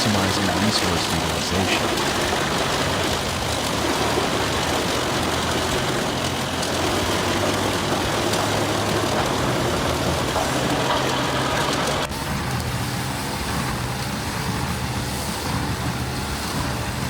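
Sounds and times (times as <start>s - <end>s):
wood chipper running: 0.0s - 17.0s.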